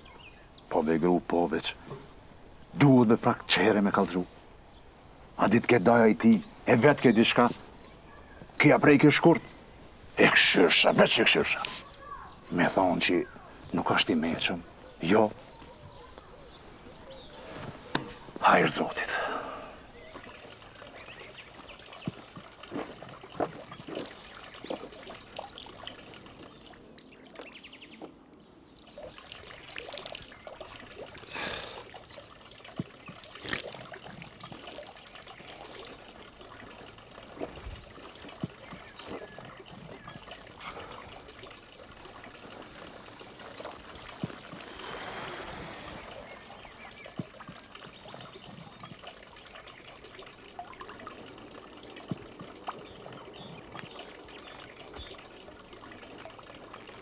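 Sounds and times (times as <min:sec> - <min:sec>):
fountain water trickling: 0:00.0 - 0:57.0.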